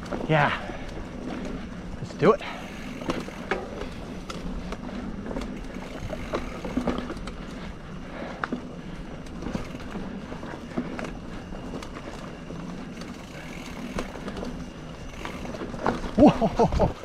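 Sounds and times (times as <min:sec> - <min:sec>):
bike rattling over bumps: 0:00.0 - 0:17.0
bike tyres rumbling on dirt: 0:00.0 - 0:17.0.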